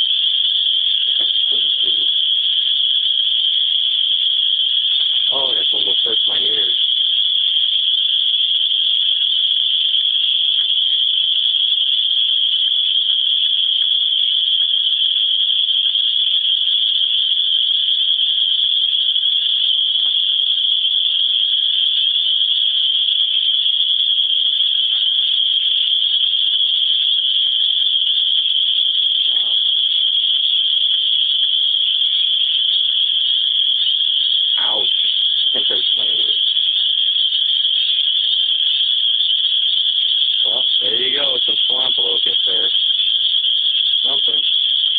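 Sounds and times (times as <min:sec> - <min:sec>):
cicadas buzzing: 0:00.0 - 0:44.9.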